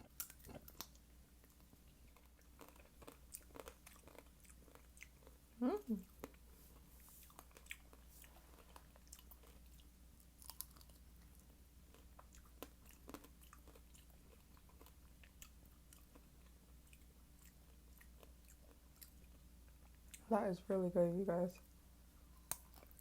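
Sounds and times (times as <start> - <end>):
chewing fruit: 0.0 - 20.3, 21.5 - 23.0
low steady hum: 0.0 - 23.0.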